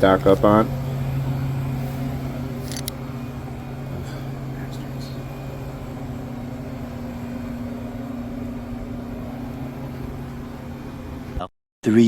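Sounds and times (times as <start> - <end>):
vending machine cooling hum: 0.0 - 11.5.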